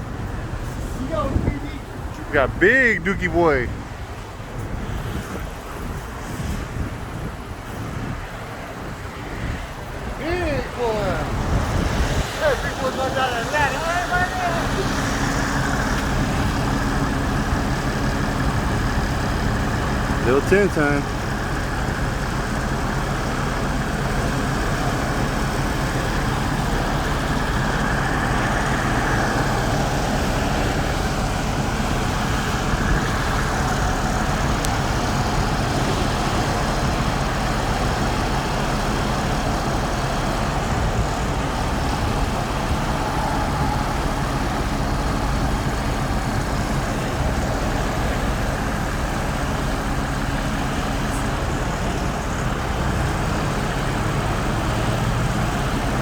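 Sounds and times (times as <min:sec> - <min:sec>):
crane engine humming: 0:00.0 - 0:56.0.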